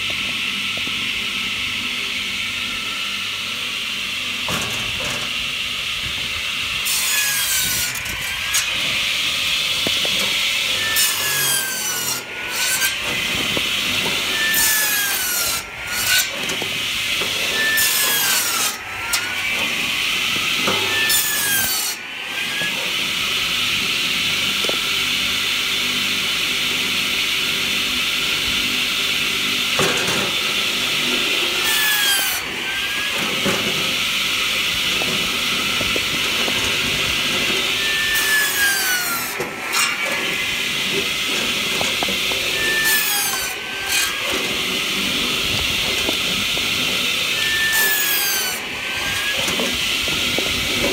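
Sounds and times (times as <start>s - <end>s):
circular saw cutting logs: 0.0s - 50.9s.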